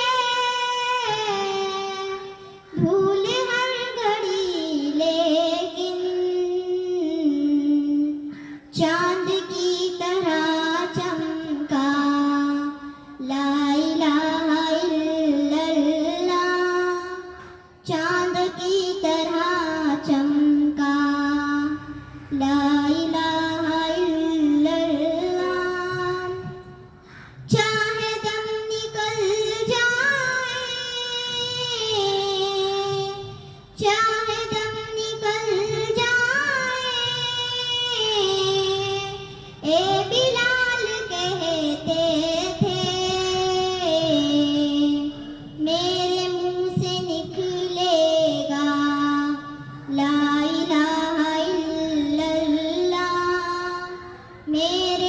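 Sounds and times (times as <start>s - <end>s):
girl singing devotional song: 0.0s - 55.0s.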